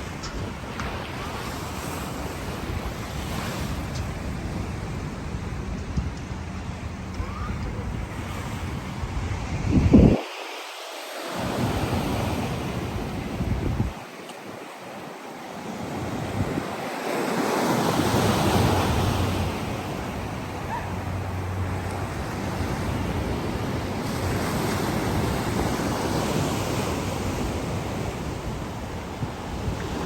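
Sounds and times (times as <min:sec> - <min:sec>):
wave breaking on shore: 0:00.0 - 0:30.0
wind buffeting microphone: 0:00.0 - 0:30.0.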